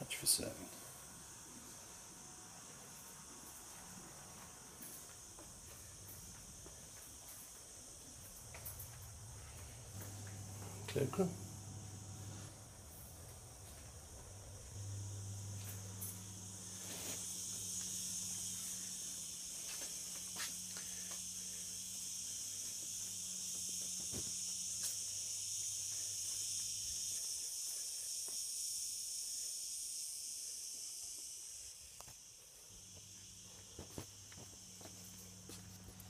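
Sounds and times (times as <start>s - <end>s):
low electrical hum: 0.0s - 36.0s
cicadas shrilling: 4.6s - 36.0s.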